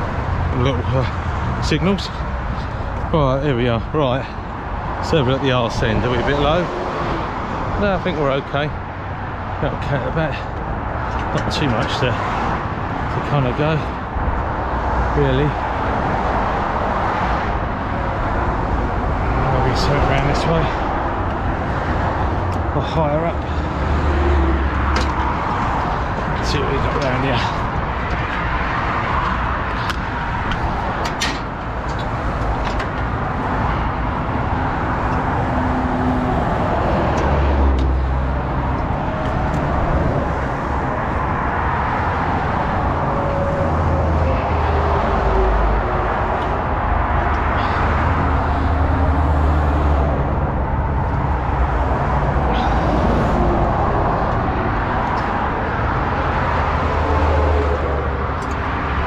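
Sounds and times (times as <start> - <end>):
heavy vehicles passing: 0.0 - 59.0
motorway traffic noise: 0.0 - 59.0.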